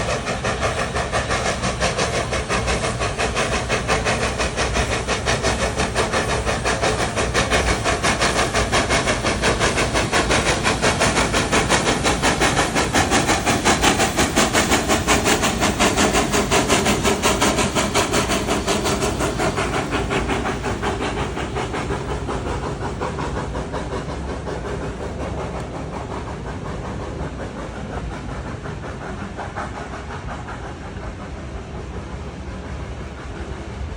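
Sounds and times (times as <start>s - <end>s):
steam hissing: 0.0s - 33.9s
steam locomotive exhaust beats: 0.0s - 33.9s.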